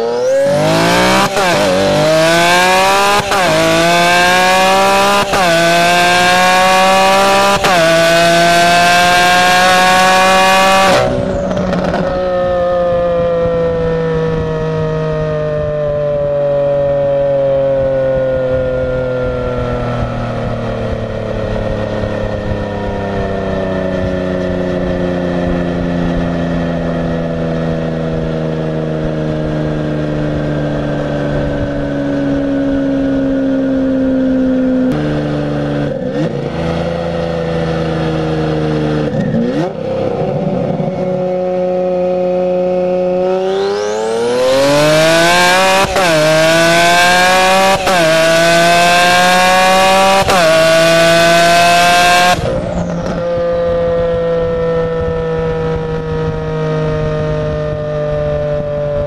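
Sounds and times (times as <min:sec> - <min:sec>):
car engine and exhaust: 0:00.0 - 0:59.0.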